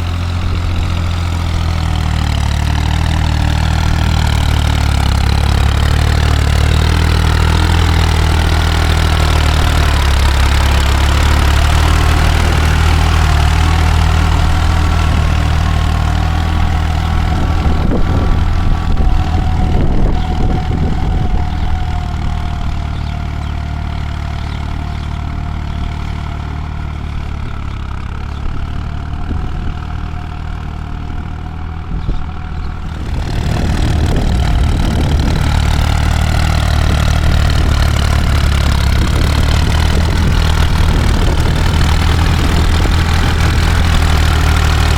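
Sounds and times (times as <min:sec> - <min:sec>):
high engine whine: 0:00.0 - 0:44.9
tractor engine droning: 0:00.0 - 0:44.9.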